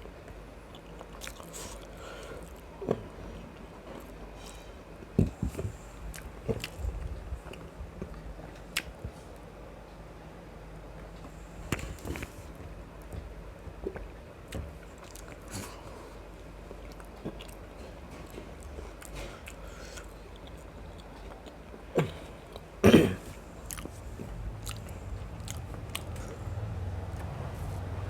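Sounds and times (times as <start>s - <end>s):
person chewing food: 0.7s - 9.4s, 11.2s - 27.9s.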